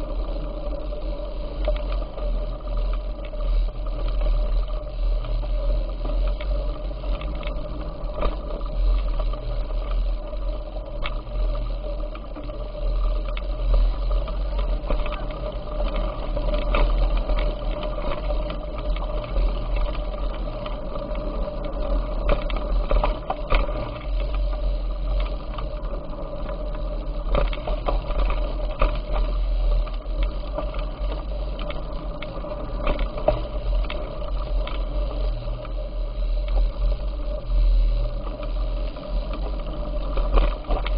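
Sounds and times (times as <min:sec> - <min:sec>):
bicycle rattles and clicks: 0:00.0 - 0:40.9
wind and road rumble: 0:00.0 - 0:40.9.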